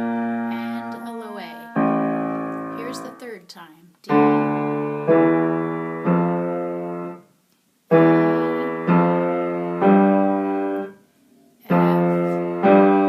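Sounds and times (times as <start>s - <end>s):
slow low piano notes: 0.0s - 3.2s, 4.1s - 7.2s, 8.0s - 10.9s, 11.6s - 13.0s.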